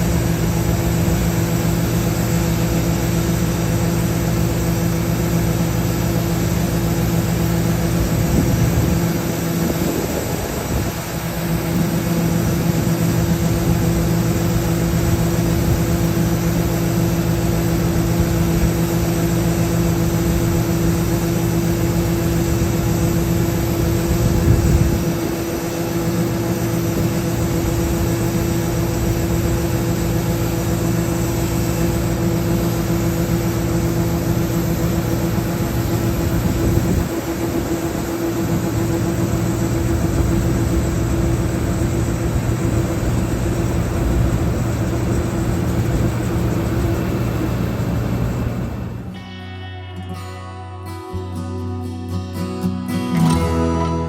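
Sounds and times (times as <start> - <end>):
diesel engine running: 0.0 - 49.2.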